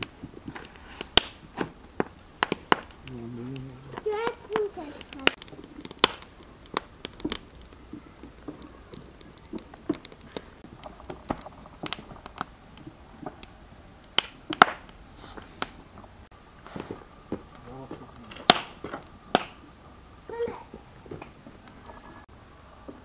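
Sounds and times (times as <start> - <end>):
logs popping: 0.0 - 22.3
wood fire crackling: 0.0 - 23.0.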